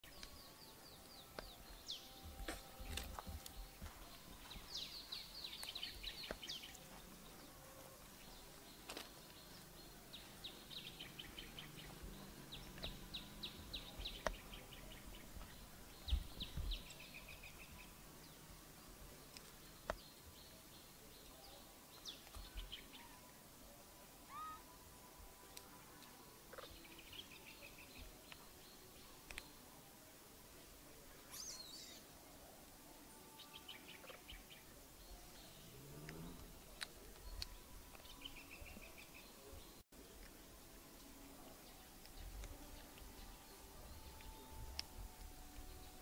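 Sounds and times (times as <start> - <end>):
outdoor background hiss: 0.0 - 46.0
songbird chirping: 0.0 - 46.0.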